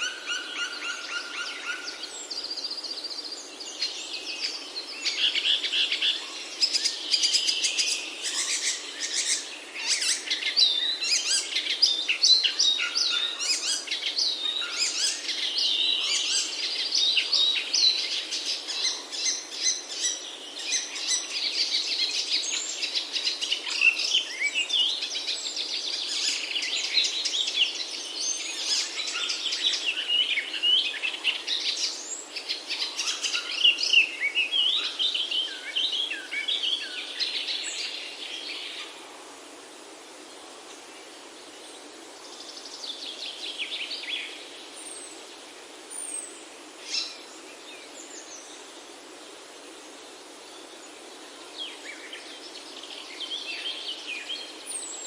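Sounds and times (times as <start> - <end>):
faint steady outdoor hiss: 0.0 - 55.0
songbirds chirping and warbling: 0.0 - 55.0.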